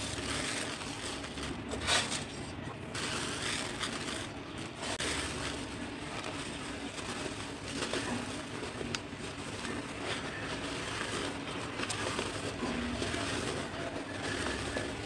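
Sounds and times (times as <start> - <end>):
cement chunks crunching by hand: 0.0 - 15.0.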